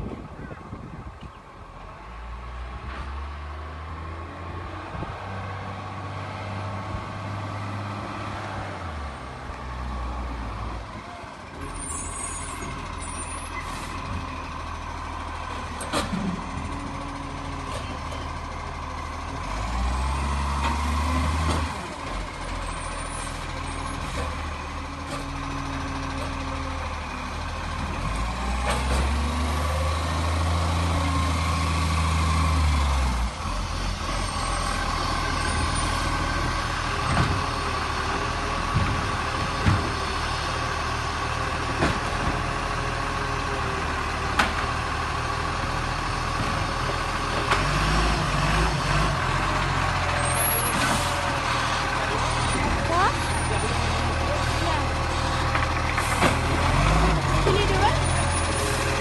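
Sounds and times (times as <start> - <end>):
garbage truck engine revving: 3.1 - 59.0.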